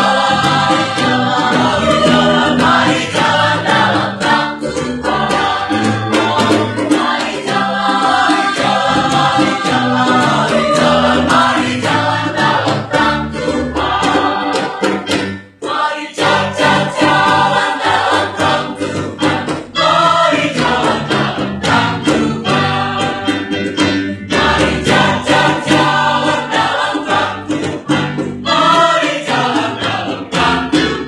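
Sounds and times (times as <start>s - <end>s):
mixed choir singing: 0.0s - 31.0s.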